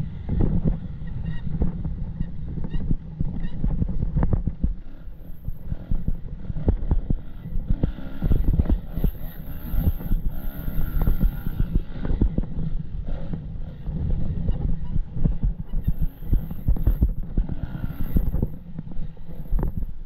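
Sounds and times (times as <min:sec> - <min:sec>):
motorcycle engine revving: 0:00.0 - 0:20.0
wind on microphone: 0:00.0 - 0:20.0.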